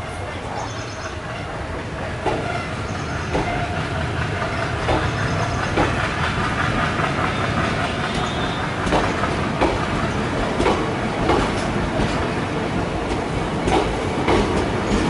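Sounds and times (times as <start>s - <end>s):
low rumble of passing train: 0.0s - 15.0s
train wheels clacking over rail joints: 0.7s - 15.0s.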